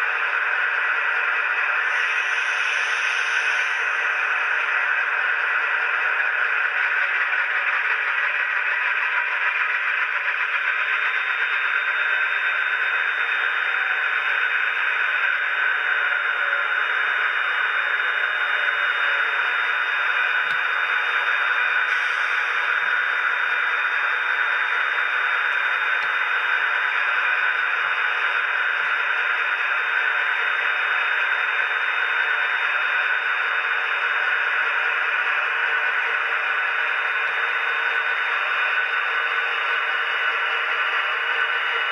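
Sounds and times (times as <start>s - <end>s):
high-pitched whine: 0.0s - 41.9s
model train diesel engine sound: 0.0s - 41.9s.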